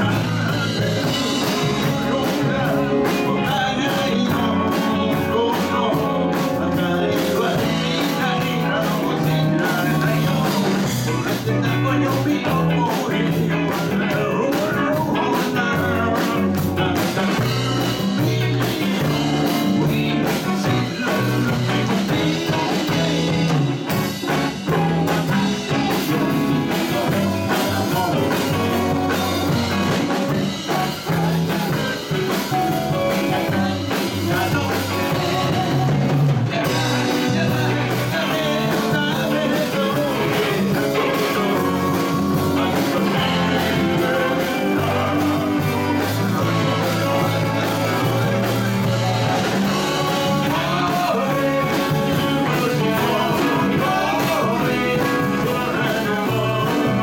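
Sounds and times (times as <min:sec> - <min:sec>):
live rock band playing: 0:00.0 - 0:57.0
man singing lead: 0:00.0 - 0:57.0.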